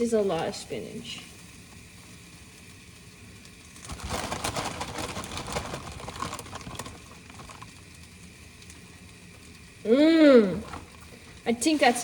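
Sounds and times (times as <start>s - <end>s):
spinach crackling in a pan: 0.0s - 12.0s.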